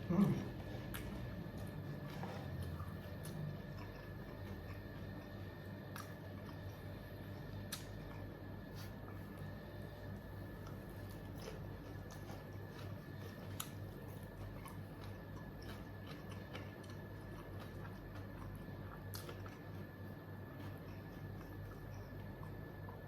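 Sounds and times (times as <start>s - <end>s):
low electrical hum: 0.0s - 23.0s
person chewing and crunching: 0.0s - 23.0s.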